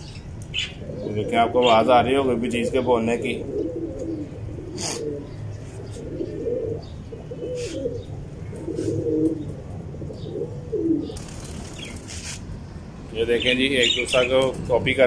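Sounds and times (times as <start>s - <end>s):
pigeons cooing: 0.0s - 12.4s.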